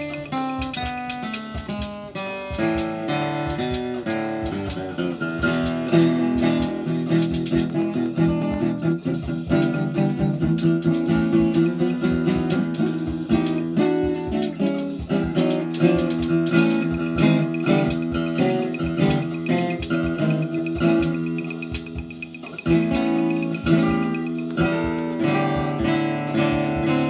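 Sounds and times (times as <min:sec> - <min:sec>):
plucked guitar: 0:00.0 - 0:27.0.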